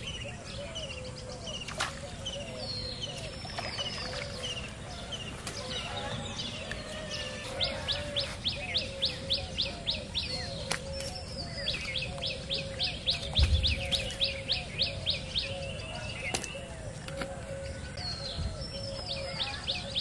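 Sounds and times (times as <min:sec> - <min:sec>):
lower bird call: 0:00.0 - 0:20.0.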